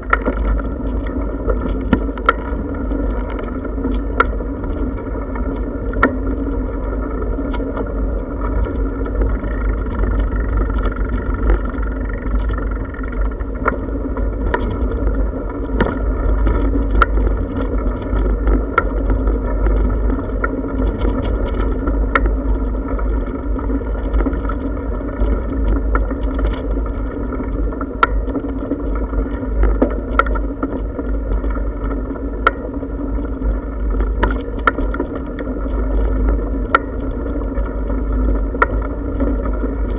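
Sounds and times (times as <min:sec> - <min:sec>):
bicycle tyres rumbling: 0:00.0 - 0:39.9.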